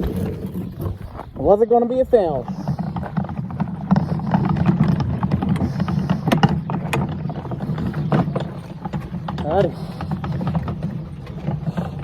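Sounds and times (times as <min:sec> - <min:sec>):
low fluttering motor hum: 0:02.2 - 0:12.0
knocks and clatter: 0:02.3 - 0:12.0.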